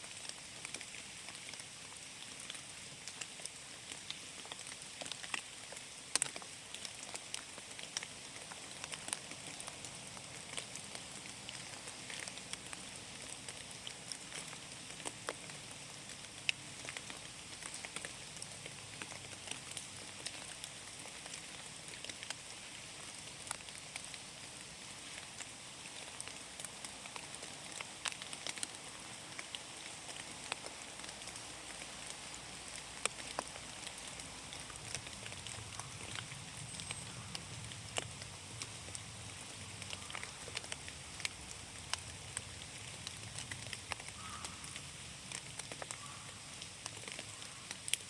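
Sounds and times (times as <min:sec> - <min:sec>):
rain hissing in forest: 0:00.0 - 0:48.0.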